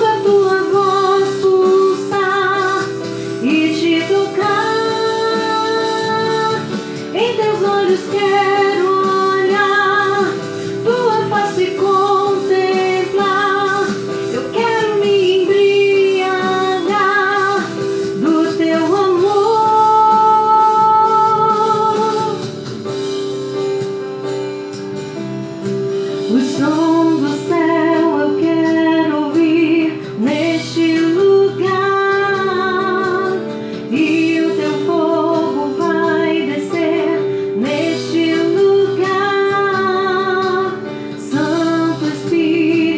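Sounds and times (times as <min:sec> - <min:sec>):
woman singing with vibrato: 0:00.0 - 0:22.5, 0:26.3 - 0:42.9
instrumental accompaniment: 0:00.0 - 0:42.9.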